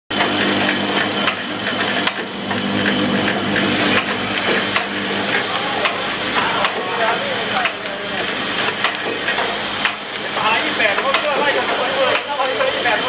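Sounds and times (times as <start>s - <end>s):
bowl feeder buzzing hum: 0.1s - 13.0s.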